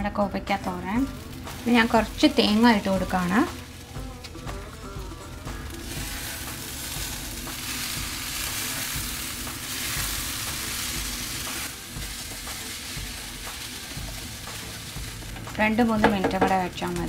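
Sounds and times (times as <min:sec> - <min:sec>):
stir-fry sizzling in a frying pan: 0:00.6 - 0:17.0.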